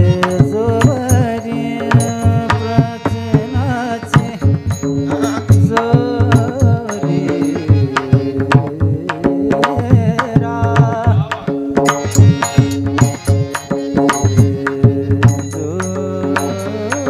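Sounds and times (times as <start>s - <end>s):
fast hand drumming: 0.0s - 17.0s
harmonium drone: 0.0s - 17.0s.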